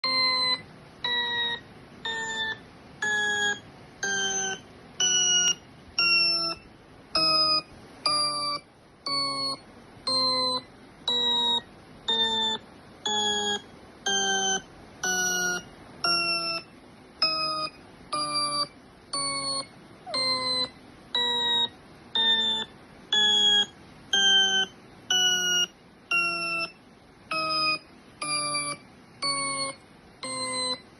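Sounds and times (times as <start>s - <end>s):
repeating electronic beep: 0.0s - 30.9s.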